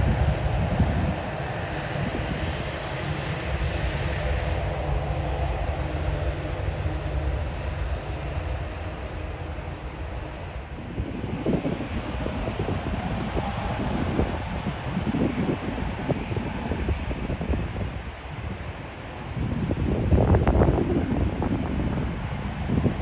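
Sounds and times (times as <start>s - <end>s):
jet engine rumble and hiss: 0.0s - 23.0s.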